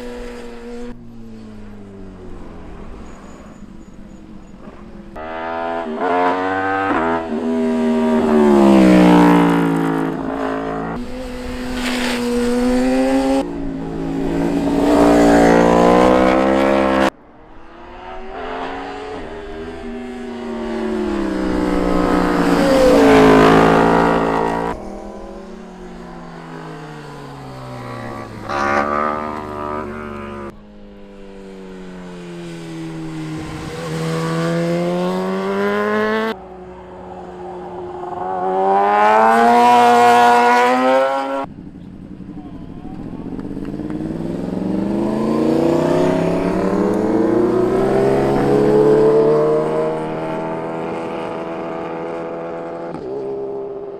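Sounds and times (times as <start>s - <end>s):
motorcycles passing by revving: 0.0s - 53.9s.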